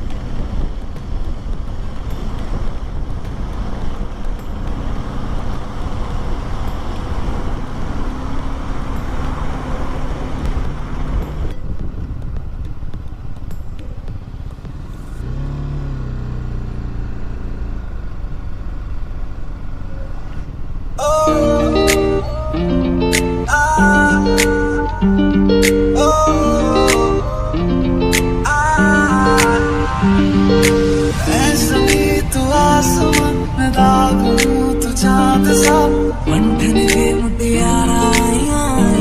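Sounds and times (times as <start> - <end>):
motorcycle engine accelerating: 0.0 - 39.0
road and wind hiss: 0.0 - 39.0.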